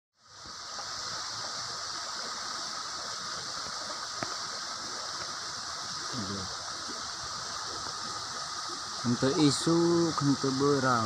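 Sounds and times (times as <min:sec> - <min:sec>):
river rushing over stones: 0:00.2 - 0:11.0.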